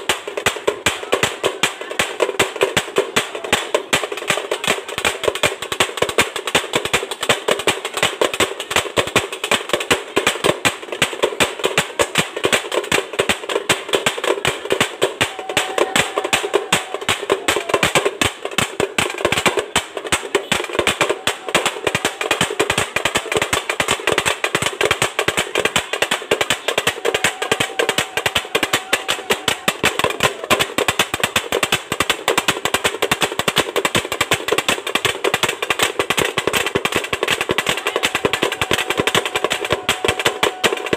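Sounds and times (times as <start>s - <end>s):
drums beaten fast: 0.0s - 40.9s.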